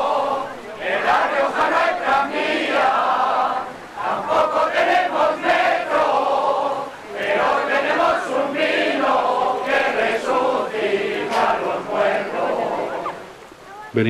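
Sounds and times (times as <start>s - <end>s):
crowd choir singing: 0.0s - 13.4s.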